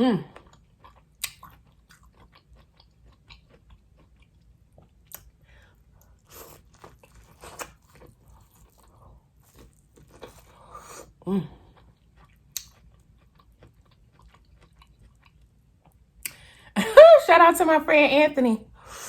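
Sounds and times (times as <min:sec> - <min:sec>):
close chewing and lip smacks: 0:00.4 - 0:16.5.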